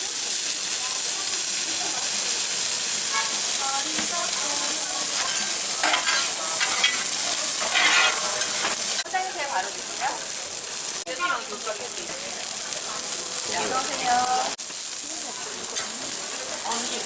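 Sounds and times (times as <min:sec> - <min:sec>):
meat frying sizzle: 0:00.0 - 0:17.0.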